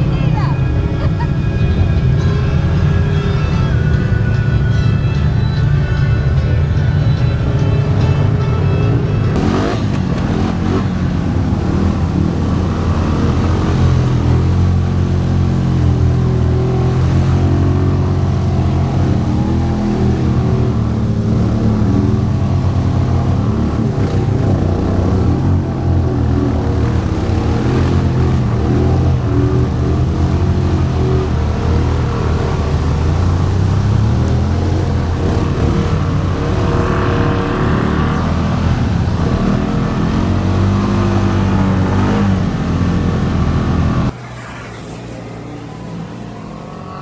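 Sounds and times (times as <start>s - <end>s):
background music: 0.0s - 43.4s
off-road vehicle engine revving: 0.0s - 44.5s.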